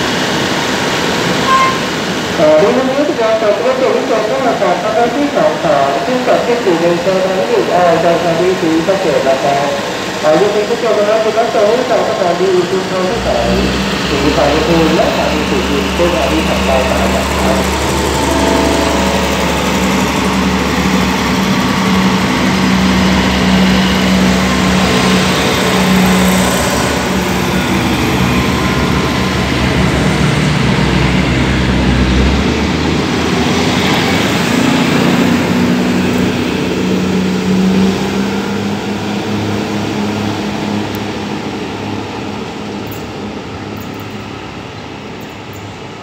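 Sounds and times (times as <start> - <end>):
diesel engines humming: 0.0 - 45.9
wheels rumbling on rails: 7.4 - 46.0.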